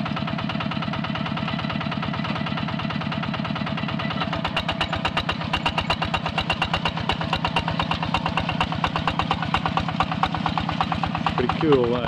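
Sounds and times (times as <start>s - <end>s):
hand tractor engine running: 0.0s - 12.0s.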